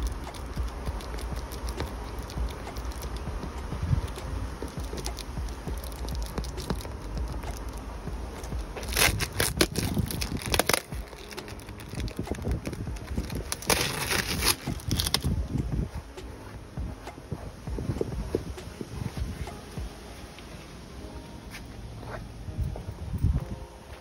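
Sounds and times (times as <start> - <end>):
low handling rumble: 0.0 - 24.0
vinyl crinkling and scraping: 0.0 - 24.0.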